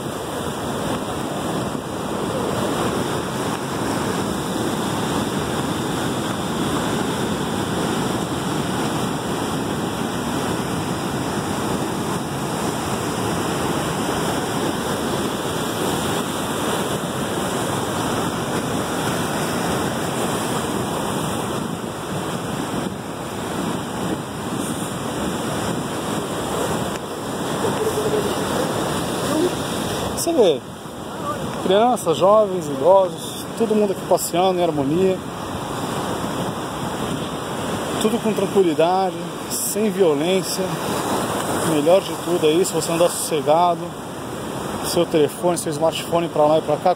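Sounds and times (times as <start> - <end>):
surf breaking on rocks: 0.0 - 46.9.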